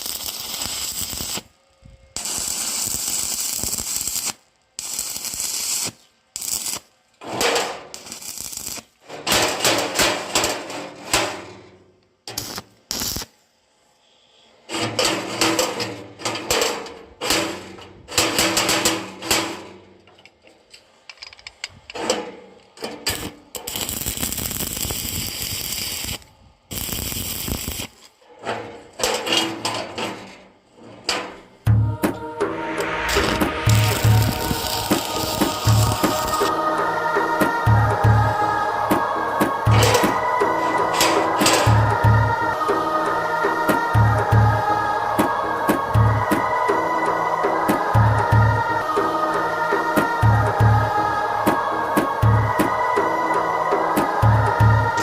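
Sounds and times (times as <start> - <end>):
steady hissing noise: 0.0 - 55.0.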